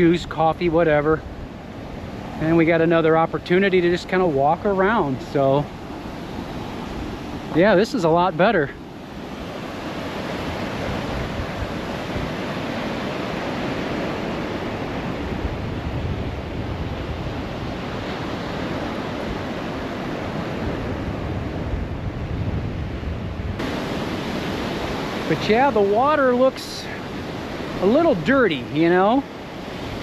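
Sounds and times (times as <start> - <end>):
waves washing on shore: 0.0 - 30.0
wind rumbling on microphone: 0.0 - 30.0.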